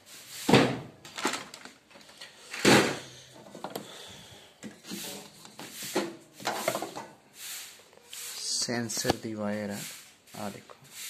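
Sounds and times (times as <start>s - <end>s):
plastic hoses rubbing and scraping: 0.1s - 10.6s.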